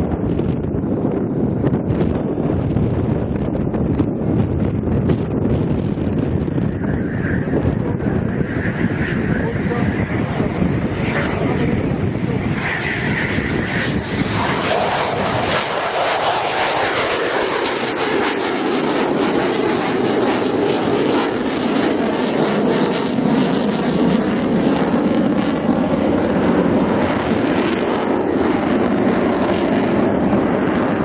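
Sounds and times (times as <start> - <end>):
jet engines roaring overhead: 0.0 - 31.0.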